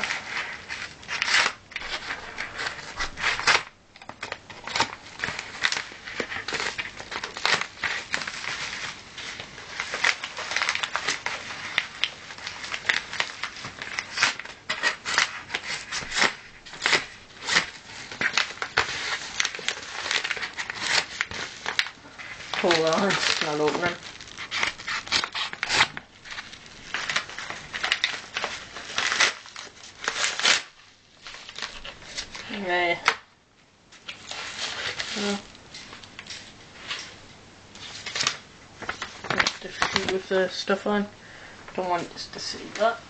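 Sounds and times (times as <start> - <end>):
packaging rustling and scraping: 0.0 - 33.2, 33.9 - 40.9.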